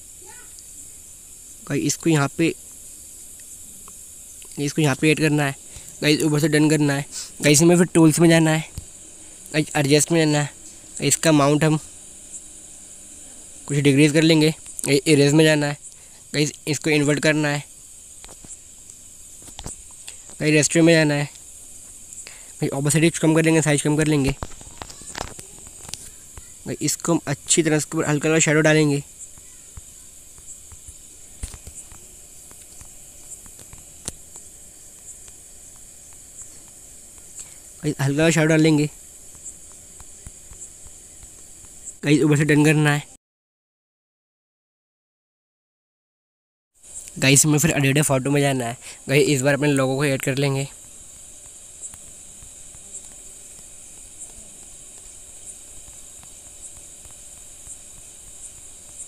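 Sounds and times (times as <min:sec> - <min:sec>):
faint pulse: 0:00.0 - 0:42.7, 0:46.9 - 0:59.0
faint high-pitched hiss: 0:00.0 - 0:43.2, 0:46.8 - 0:59.0
sharp ticks: 0:01.9 - 0:13.0, 0:13.7 - 0:42.0, 0:46.9 - 0:59.0.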